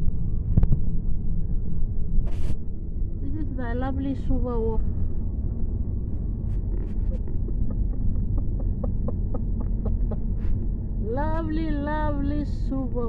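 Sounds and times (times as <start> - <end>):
car driving rumble from inside: 0.0 - 13.0.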